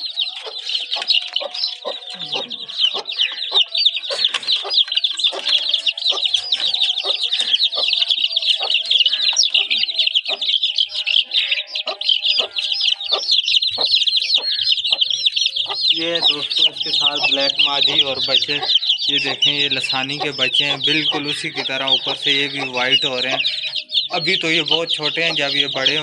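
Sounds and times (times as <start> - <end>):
chicks peeping: 0.0 - 26.0
hen clucking: 0.0 - 26.0.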